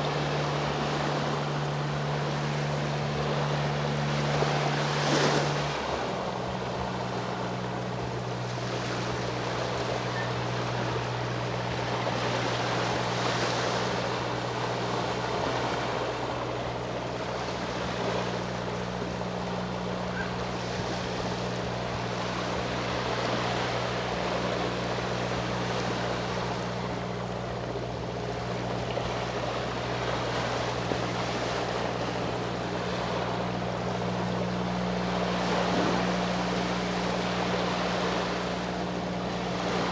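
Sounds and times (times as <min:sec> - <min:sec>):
boat engine humming: 0:00.0 - 0:39.9
sea waves washing onto shore: 0:00.0 - 0:39.9.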